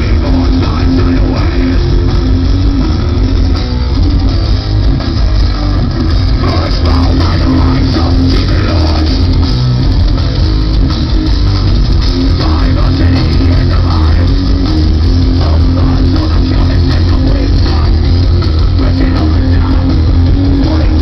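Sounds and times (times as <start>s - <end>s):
bass guitar: 0.0s - 21.0s
distorted electric guitars: 0.0s - 21.0s
drum kit: 0.0s - 21.0s.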